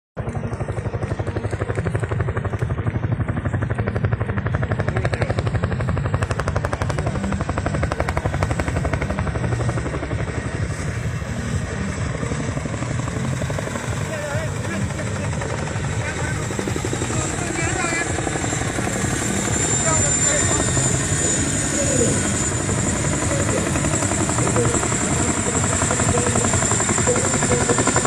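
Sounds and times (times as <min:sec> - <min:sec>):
helicopter rotor chopping: 0:00.2 - 0:28.0.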